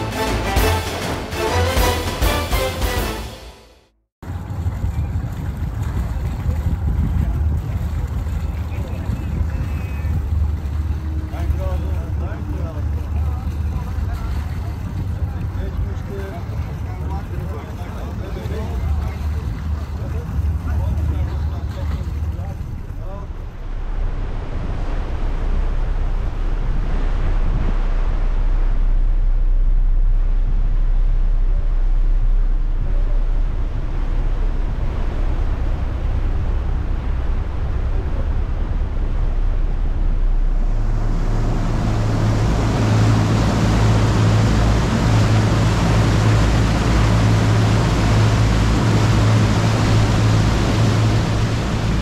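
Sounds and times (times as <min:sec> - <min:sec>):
boat engine droning: 0:00.0 - 0:52.0
wind and water hiss: 0:04.2 - 0:52.0.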